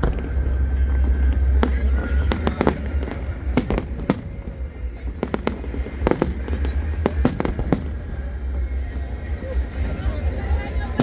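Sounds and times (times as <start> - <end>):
fireworks bangs and crackling: 0.0 - 11.0
low rumble: 0.0 - 11.0.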